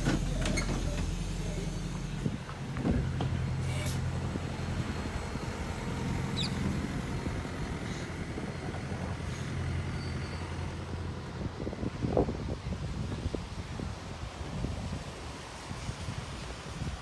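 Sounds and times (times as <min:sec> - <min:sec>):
vehicle engine humming: 0:00.0 - 0:16.8.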